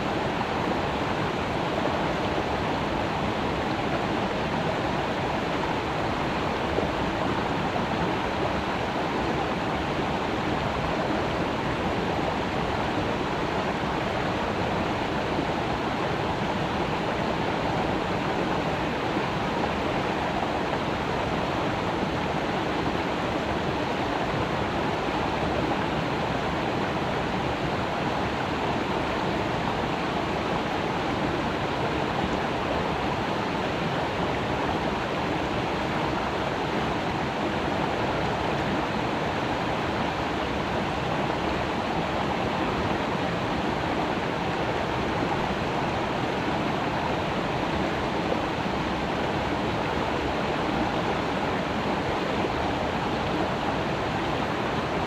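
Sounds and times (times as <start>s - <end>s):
creek water babbling: 0.0s - 55.0s.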